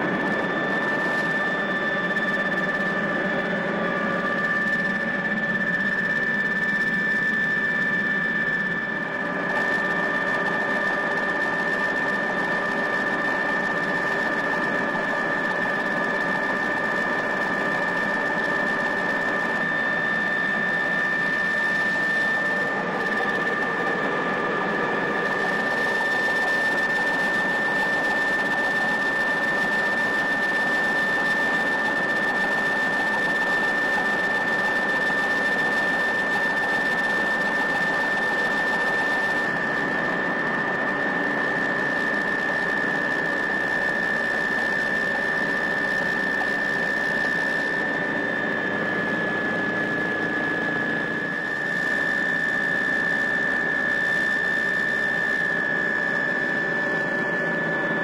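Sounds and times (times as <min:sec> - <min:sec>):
helicopter engine and rotor noise: 0:00.0 - 0:58.0
high-pitched whine: 0:00.0 - 0:58.0.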